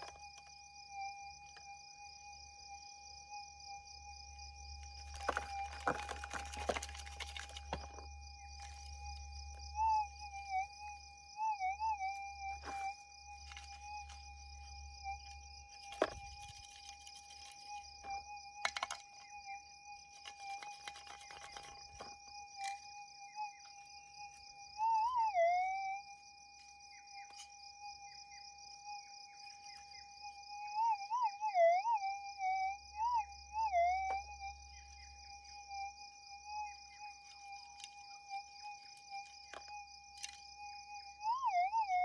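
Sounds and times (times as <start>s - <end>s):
insect chorus: 0.0s - 42.0s.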